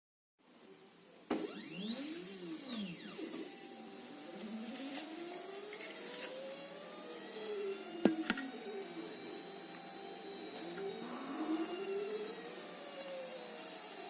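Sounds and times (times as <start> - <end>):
stepper motors whining: 1.4 - 14.0.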